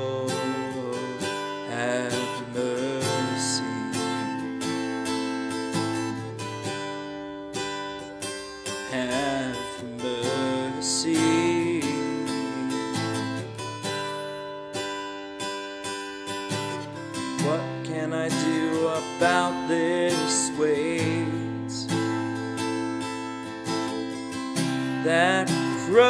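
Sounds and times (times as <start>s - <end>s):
acoustic guitar strummed and picked: 0.0s - 26.0s.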